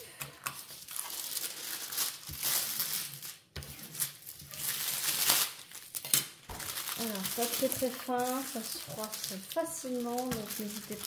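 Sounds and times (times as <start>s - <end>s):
plastic film crinkling: 0.4s - 11.0s.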